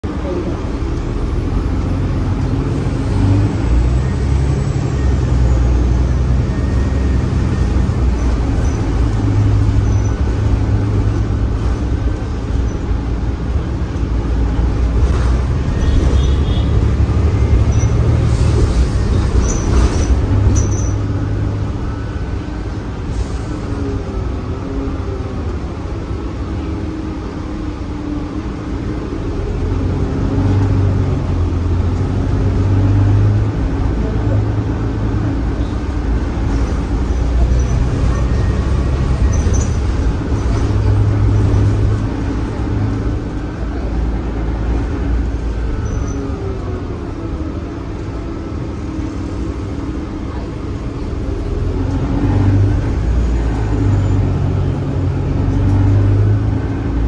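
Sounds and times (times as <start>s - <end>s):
bus engine and driveline hum: 0.0s - 57.0s.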